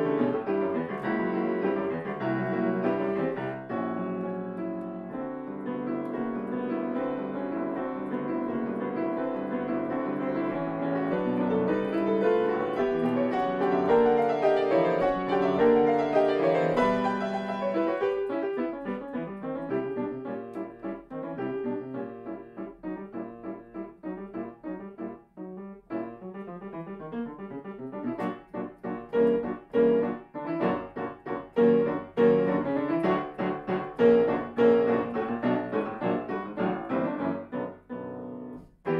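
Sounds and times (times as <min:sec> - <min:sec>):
grand piano playing: 0:00.0 - 0:38.9.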